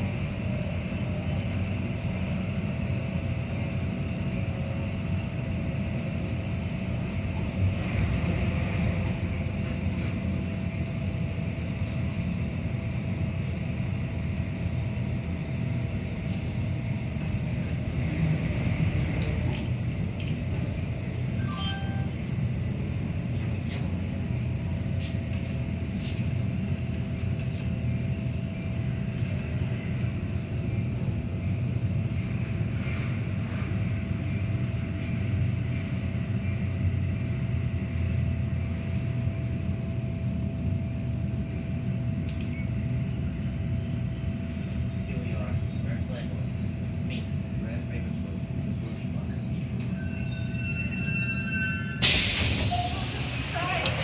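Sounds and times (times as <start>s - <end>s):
train car rumbling on track: 0.0s - 54.0s.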